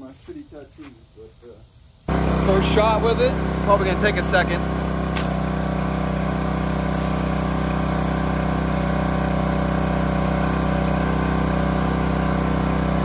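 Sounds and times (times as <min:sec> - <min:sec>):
water jet hissing: 0:00.9 - 0:13.0
pressure washer engine running: 0:02.1 - 0:13.0.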